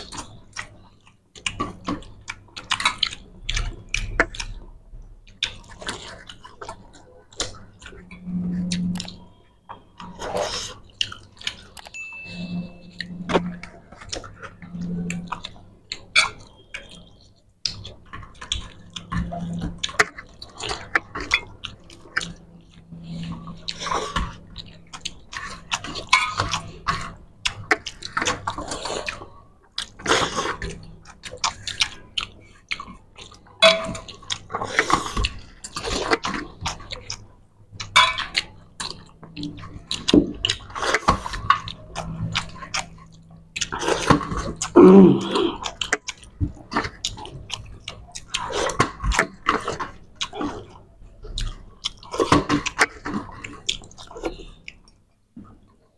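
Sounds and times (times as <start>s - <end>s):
chewing: 0.0s - 55.9s
wet squishing of rice: 0.0s - 55.9s.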